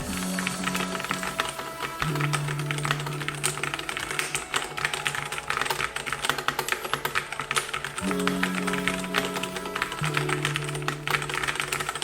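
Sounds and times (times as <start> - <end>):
fast typing on mechanical keyboard: 0.0 - 12.0.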